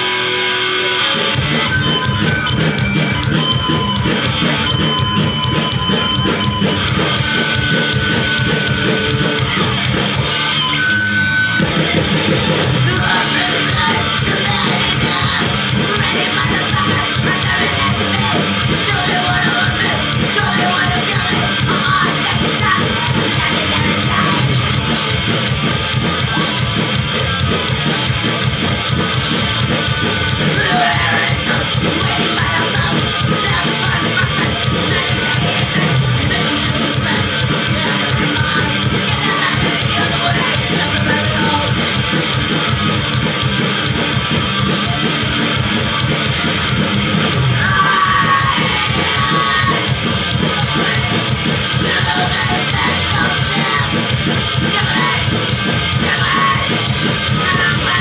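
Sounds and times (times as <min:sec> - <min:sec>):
bass guitar: 0:00.0 - 0:58.0
distorted electric guitar: 0:00.0 - 0:58.0
drums: 0:00.0 - 0:58.0.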